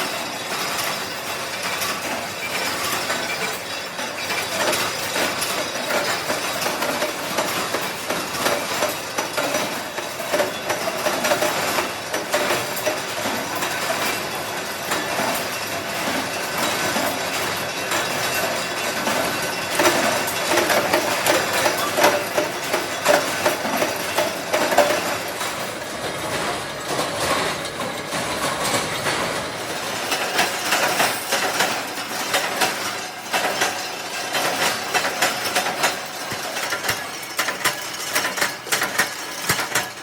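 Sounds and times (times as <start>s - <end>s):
factory machinery clattering: 0.0s - 40.0s.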